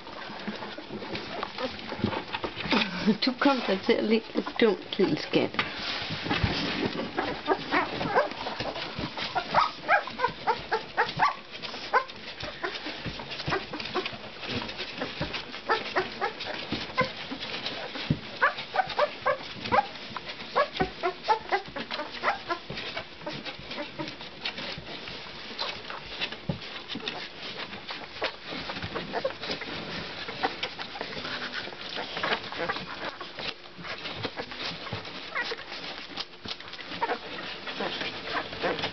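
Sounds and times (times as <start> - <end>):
puppies suckling clicks: 0.0 - 5.3, 7.2 - 38.9
puppies squeaking and whimpering: 0.1 - 3.4, 6.3 - 38.9.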